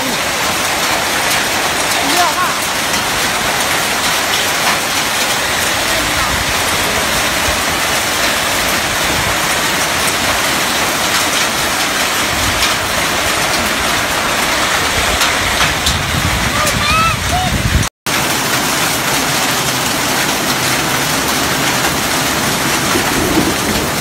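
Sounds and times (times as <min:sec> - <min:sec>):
hailstones ticking: 0:00.0 - 0:17.5, 0:18.1 - 0:24.0
heavy rain on ground: 0:00.0 - 0:24.0.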